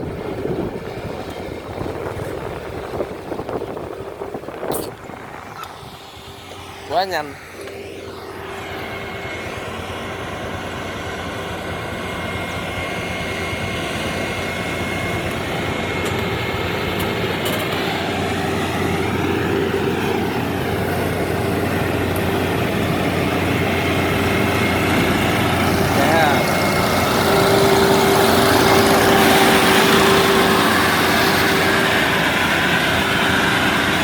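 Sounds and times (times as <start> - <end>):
combine harvester engine droning: 0.0 - 34.0.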